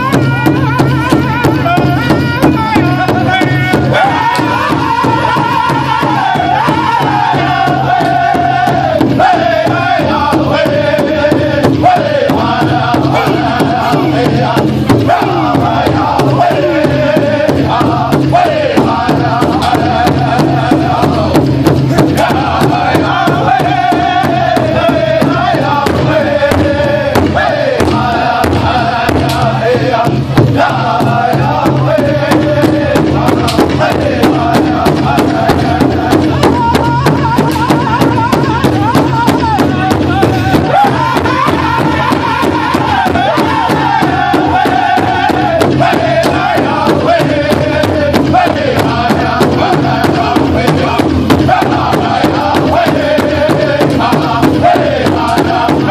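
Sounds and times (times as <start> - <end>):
group singing: 0.0 - 55.9
large drum beating: 0.0 - 55.9.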